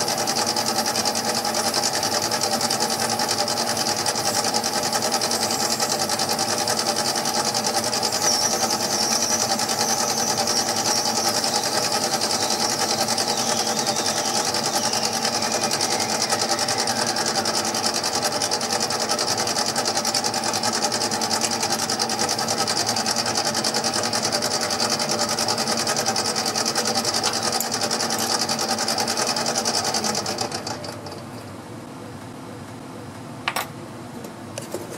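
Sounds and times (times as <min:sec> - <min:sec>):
mini lathe running: 0:00.0 - 0:31.2.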